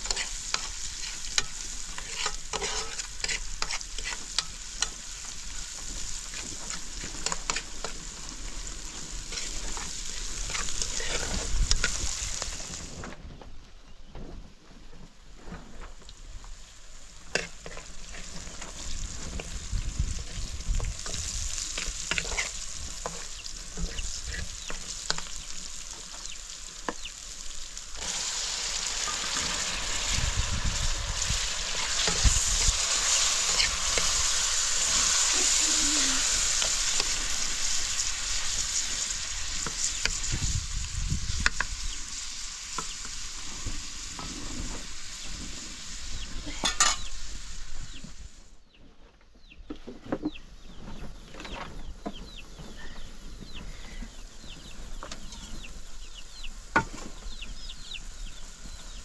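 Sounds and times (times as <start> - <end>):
food sizzling: 0.0 - 13.1, 16.0 - 48.5, 54.2 - 59.0.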